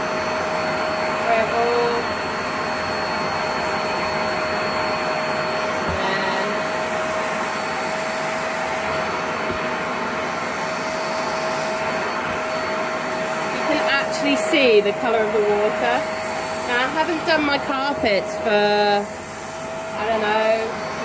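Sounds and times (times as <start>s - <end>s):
carpet cleaner motor whine: 0.0s - 21.0s.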